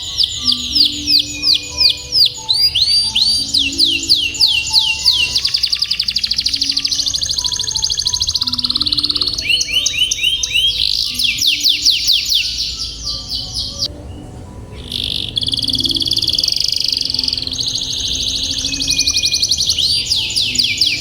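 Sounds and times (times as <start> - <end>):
canary trilling: 0.0 - 21.0.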